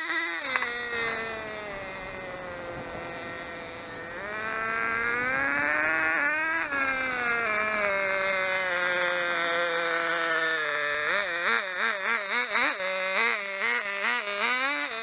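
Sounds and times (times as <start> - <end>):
small engine buzzing: 0.0 - 15.0.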